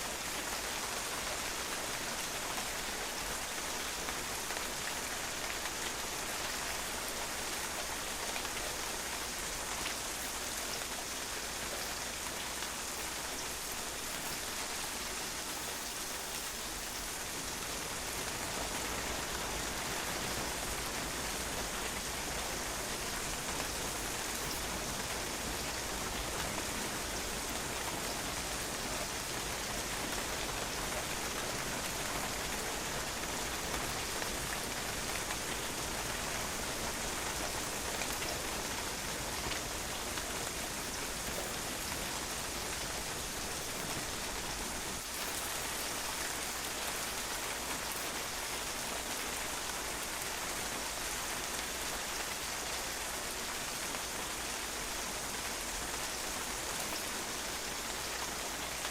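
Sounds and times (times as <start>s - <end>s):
rain pattering on a patio: 0.0s - 58.9s.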